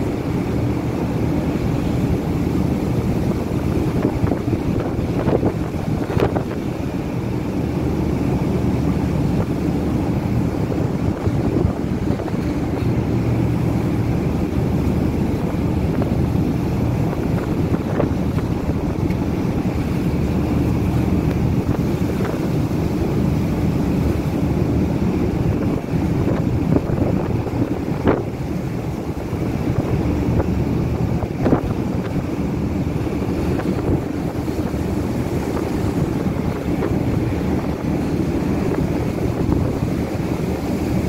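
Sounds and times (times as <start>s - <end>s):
sea: 0.0s - 41.0s
ship engines humming: 0.0s - 41.0s
wind buffeting microphone: 0.0s - 41.0s.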